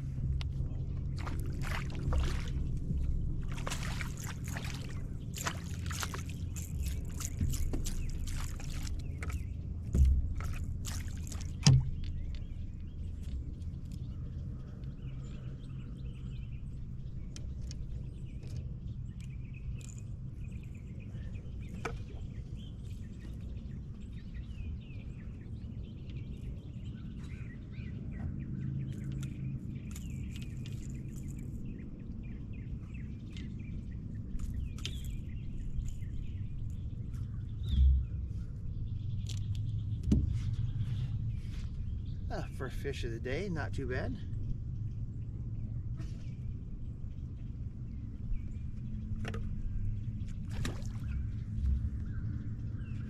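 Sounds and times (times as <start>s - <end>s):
birds chirping: 0.0s - 53.0s
low steady hum: 0.0s - 53.0s.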